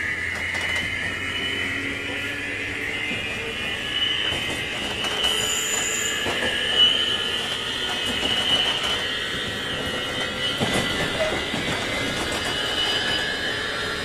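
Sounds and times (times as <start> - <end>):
train motor whine: 0.0 - 14.0
train wheels rumbling: 0.0 - 14.0.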